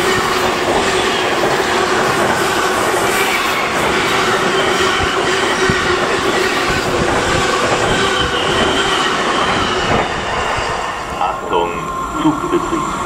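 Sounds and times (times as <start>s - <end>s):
freight train wheels rattling: 0.0s - 11.9s.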